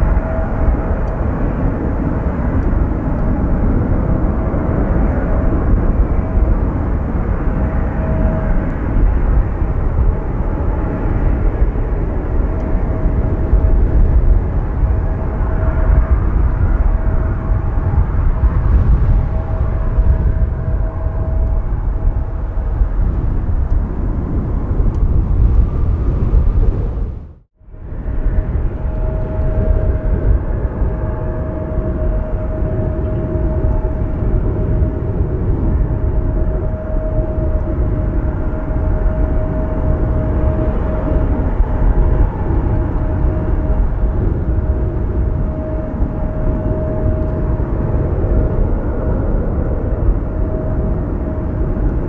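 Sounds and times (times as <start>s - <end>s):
jet engines running: 0.0s - 52.0s
wind buffeting microphone: 0.0s - 52.0s.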